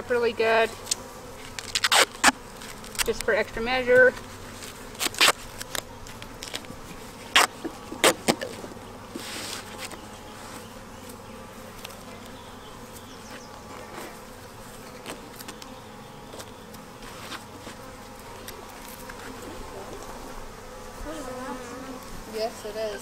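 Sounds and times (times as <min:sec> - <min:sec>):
bee swarm buzzing: 0:00.0 - 0:23.0.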